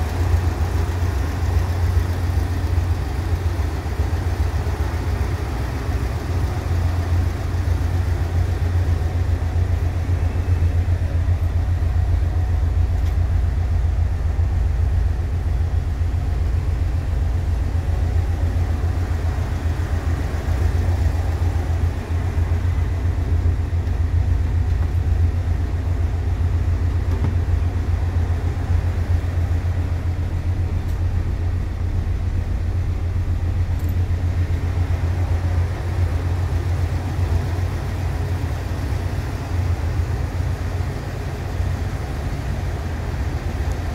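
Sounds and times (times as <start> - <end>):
van engine idling: 0.0 - 43.9.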